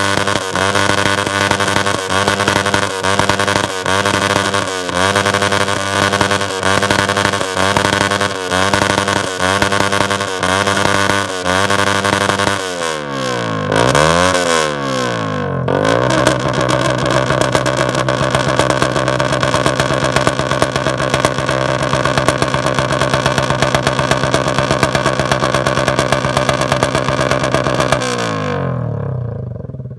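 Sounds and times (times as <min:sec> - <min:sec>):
crackling backfire pops: 0:00.0 - 0:12.6, 0:16.1 - 0:28.2
motorbike engine revving: 0:00.0 - 0:29.9.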